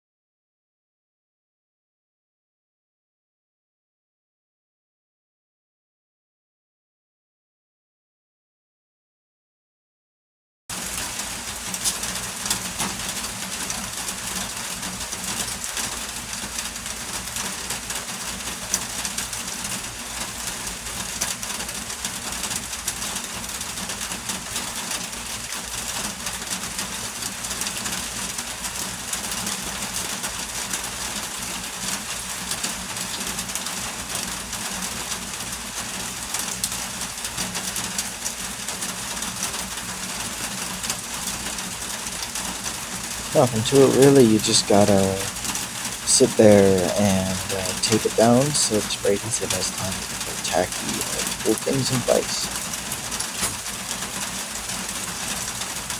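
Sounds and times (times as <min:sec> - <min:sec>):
heavy rain falling: 0:10.7 - 0:55.9.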